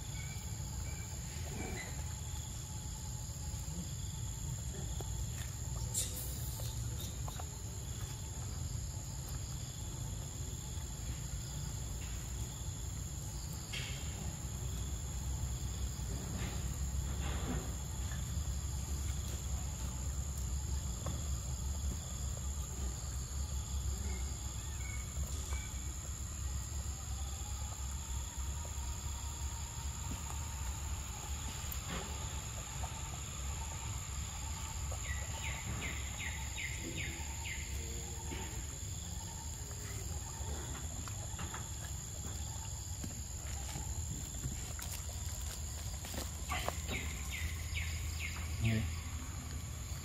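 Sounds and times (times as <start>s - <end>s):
insects buzzing: 0.0s - 50.0s.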